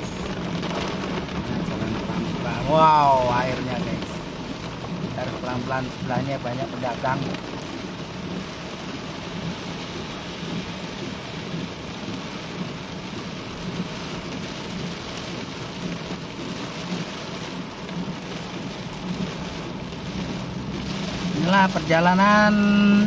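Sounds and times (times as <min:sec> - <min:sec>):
car driving slowly: 0:00.0 - 0:23.0
heavy rain downpour: 0:00.0 - 0:23.0.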